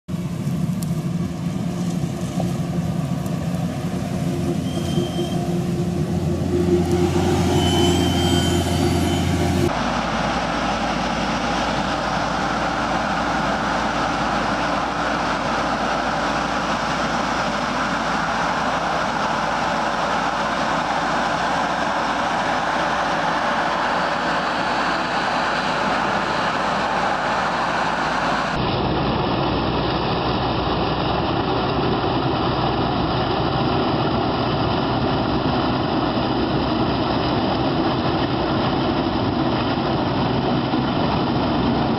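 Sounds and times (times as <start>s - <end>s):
low even engine hum: 0.1s - 41.9s
dense rushing machine clatter: 1.1s - 41.9s.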